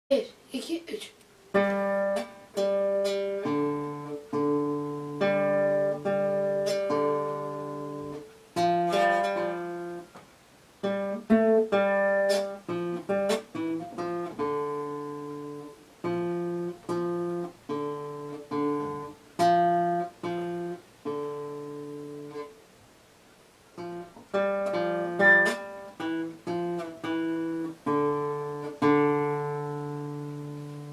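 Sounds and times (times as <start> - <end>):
fingerstyle classical guitar: 1.5 - 10.2, 10.8 - 22.6, 23.8 - 30.9.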